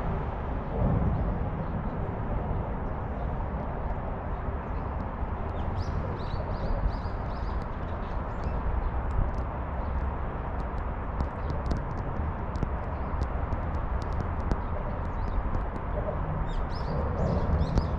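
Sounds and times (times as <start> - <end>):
distant city noise: 0.0 - 17.9
wind rumble: 0.0 - 17.9.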